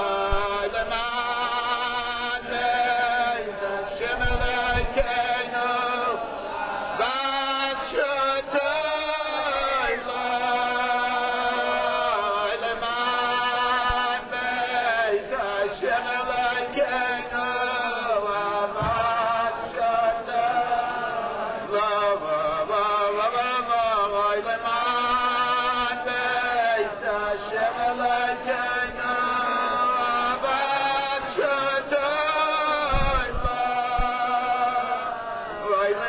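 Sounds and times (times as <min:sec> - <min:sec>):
person chanting a melody: 0:00.0 - 0:06.2, 0:07.0 - 0:36.0.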